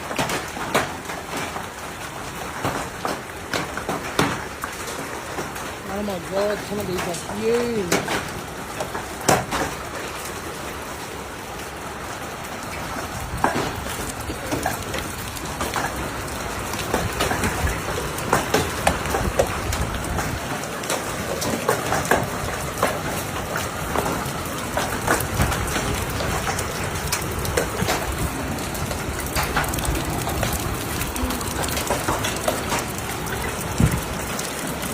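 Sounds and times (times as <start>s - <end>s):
hailstones striking hard surfaces: 0.0s - 34.9s
rain falling: 0.0s - 34.9s.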